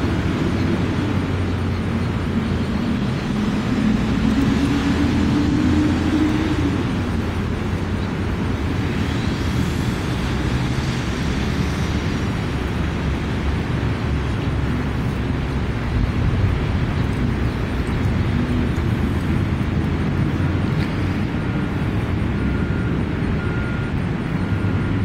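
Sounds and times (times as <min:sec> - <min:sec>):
passing vehicle engine rumble: 0:00.0 - 0:25.0.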